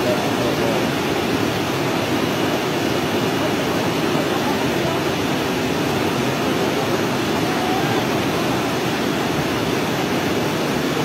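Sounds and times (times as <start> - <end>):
flood torrent rushing: 0.0 - 11.0.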